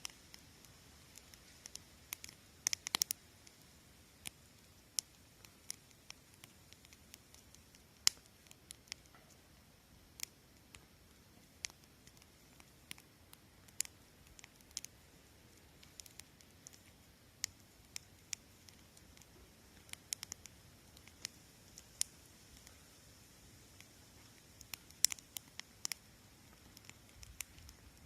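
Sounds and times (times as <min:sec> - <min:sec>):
campfire crackling and popping: 0:00.0 - 0:28.0
faint steady hiss: 0:00.0 - 0:28.0.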